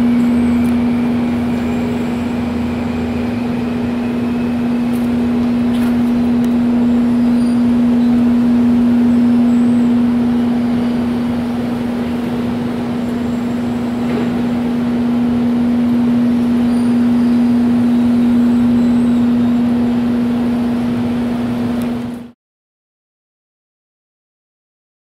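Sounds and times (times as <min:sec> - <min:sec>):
steady mechanical hum: 0:00.0 - 0:22.4.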